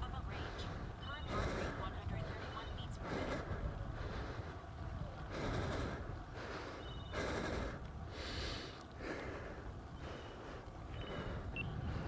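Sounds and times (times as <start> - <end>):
road noise rumble: 0.0 - 12.0
person breathing heavily: 0.3 - 12.0.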